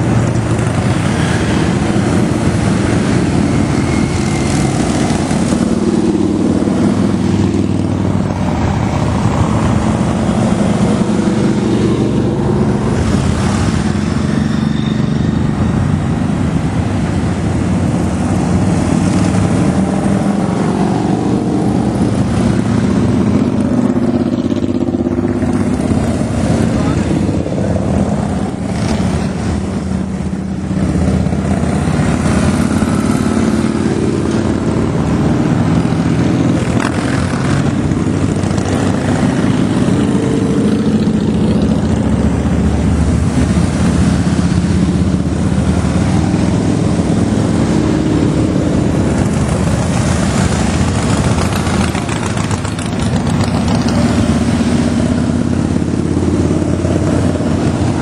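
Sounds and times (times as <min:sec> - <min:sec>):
motorcycles riding past: 0:00.0 - 0:58.0.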